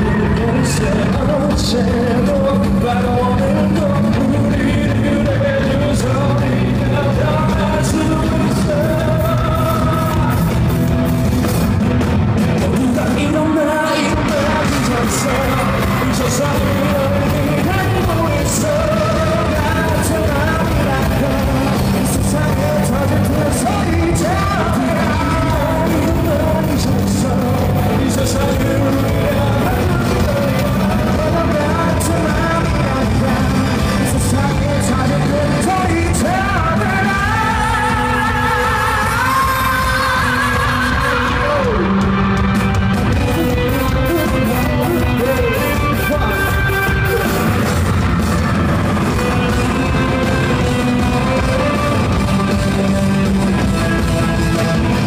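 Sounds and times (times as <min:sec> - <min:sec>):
man singing: 0:00.0 - 0:11.0, 0:12.4 - 0:55.0
crowd yelling along: 0:00.0 - 0:55.0
live pop-rock band playing: 0:00.0 - 0:55.0.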